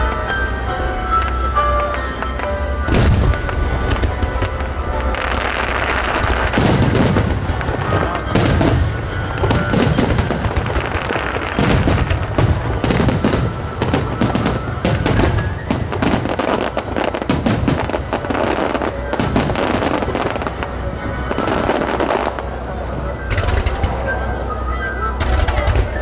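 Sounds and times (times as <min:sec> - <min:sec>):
fireworks bangs and crackles: 0:00.0 - 0:26.0
music playing: 0:00.0 - 0:26.0.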